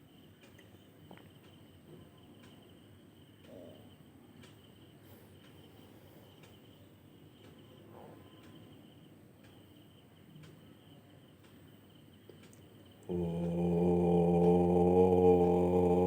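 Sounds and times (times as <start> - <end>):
soft ticks: 0.1 - 16.0.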